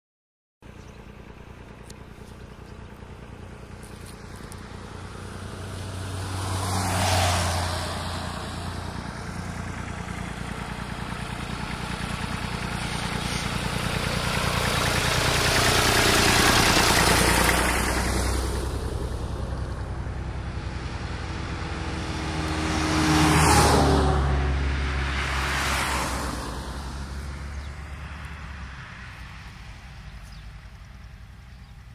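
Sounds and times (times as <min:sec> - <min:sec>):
low engine hum: 0:00.6 - 0:31.9
tractor engine: 0:00.6 - 0:31.9
vehicles rushing past: 0:00.7 - 0:31.9.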